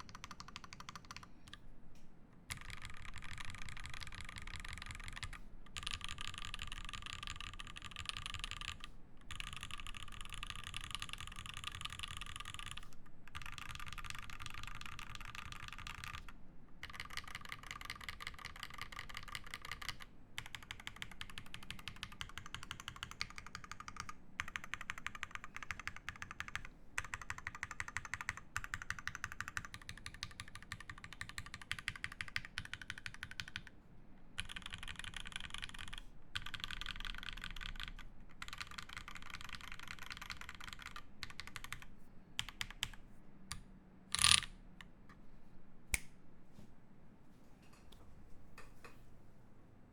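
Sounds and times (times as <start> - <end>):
fast typing on mechanical keyboard: 0.0 - 1.3, 2.5 - 33.8, 34.4 - 43.0, 44.1 - 44.5.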